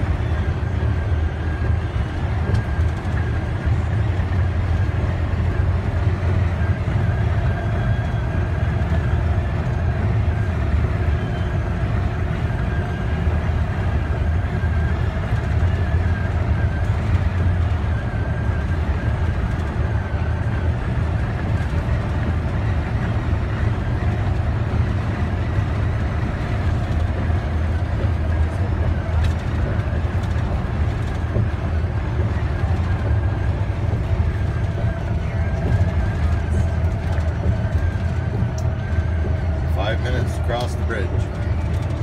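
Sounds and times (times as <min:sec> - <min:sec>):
engine and tyre rumble: 0:00.0 - 0:42.0.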